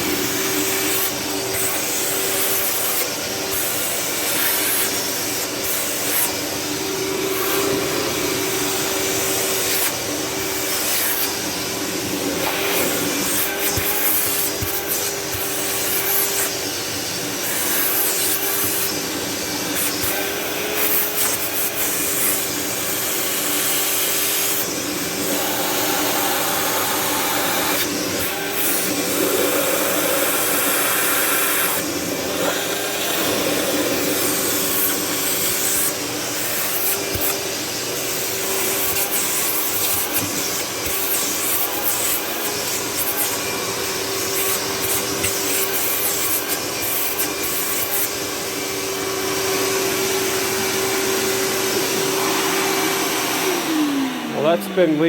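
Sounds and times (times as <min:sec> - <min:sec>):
shop vac whining: 0:00.0 - 0:55.0.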